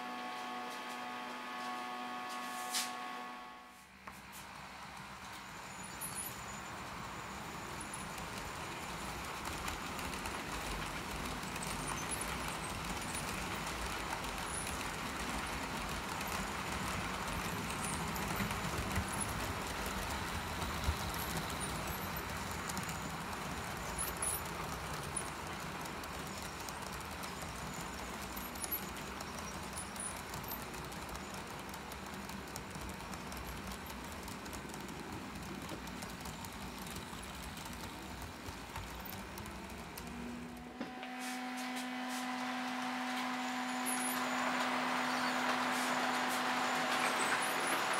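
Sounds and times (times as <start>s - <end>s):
model trains rumbling on track: 4.4s - 47.9s.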